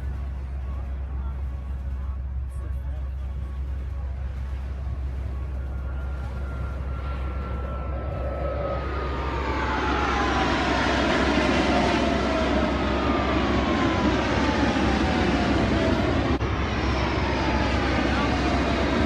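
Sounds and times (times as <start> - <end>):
airplane engine flying past: 0.0 - 19.0
falling whine: 0.0 - 19.0.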